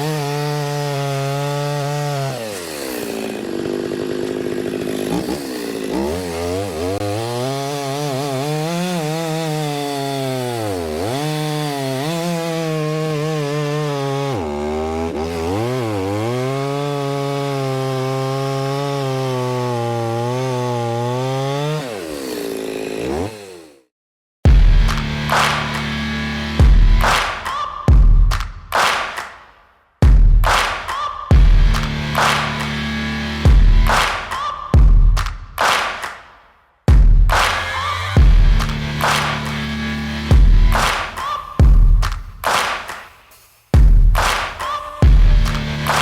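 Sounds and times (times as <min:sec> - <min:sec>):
chainsaw cutting wood: 0:00.0 - 0:23.9, 0:24.5 - 0:27.5, 0:30.6 - 0:34.6, 0:37.3 - 0:43.1, 0:43.8 - 0:46.0.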